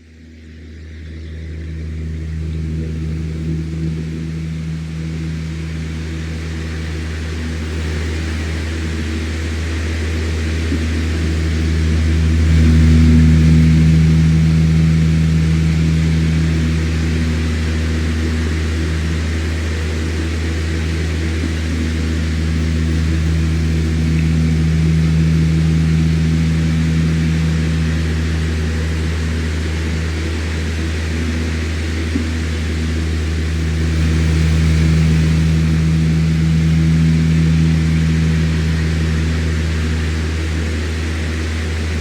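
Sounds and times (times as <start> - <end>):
electric fan running: 0.0 - 42.0.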